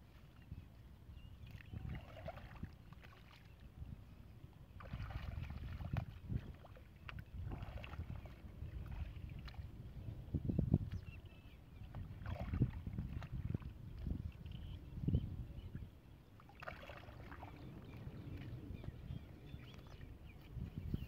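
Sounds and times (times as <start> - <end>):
muddy water sloshing and splashing: 0.1 - 14.8, 15.6 - 21.0.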